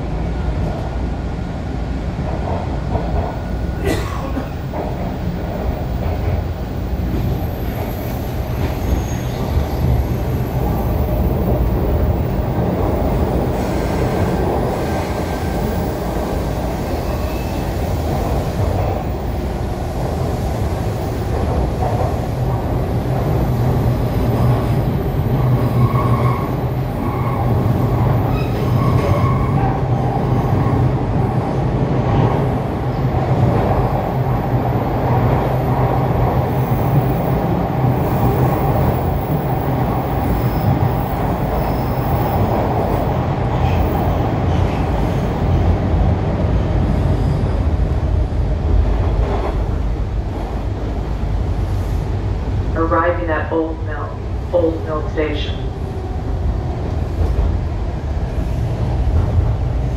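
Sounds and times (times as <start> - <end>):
train wheels rumbling on rails: 0.0 - 52.8, 54.1 - 59.9.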